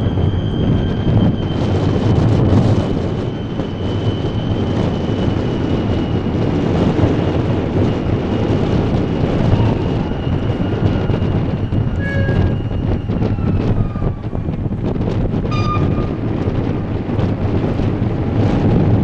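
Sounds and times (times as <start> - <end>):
tugboat diesel engine rumble: 0.0 - 19.0.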